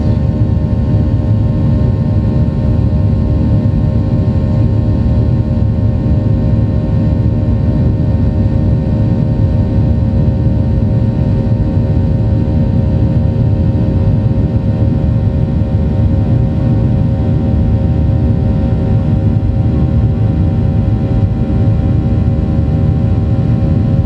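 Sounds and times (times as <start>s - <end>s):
jet engine low rumble: 0.0s - 24.0s
steady hum tones: 0.0s - 24.0s.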